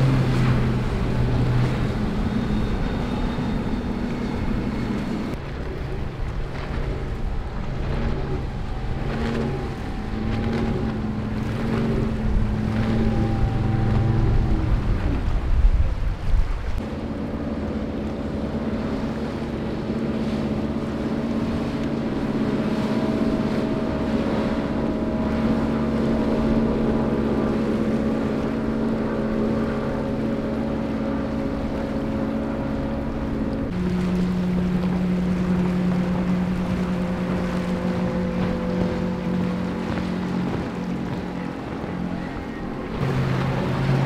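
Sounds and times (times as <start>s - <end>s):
powerboat outboard motors: 0.0s - 44.0s.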